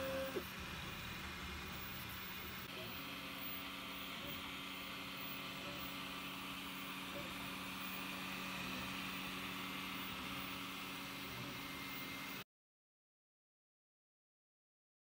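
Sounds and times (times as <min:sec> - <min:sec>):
cooling fans whirring: 0:00.0 - 0:12.4
stepper motor tones: 0:00.0 - 0:12.4.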